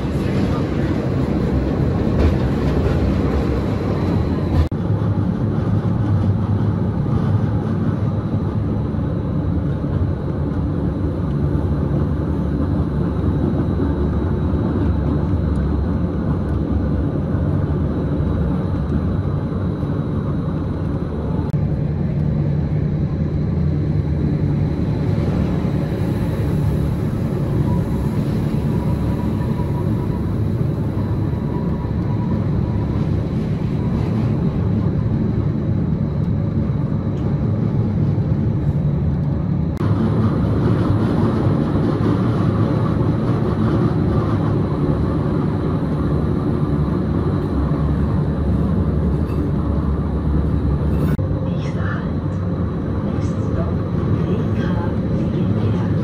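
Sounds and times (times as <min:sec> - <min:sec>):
train rumbling from inside carriage: 0:00.0 - 0:56.0.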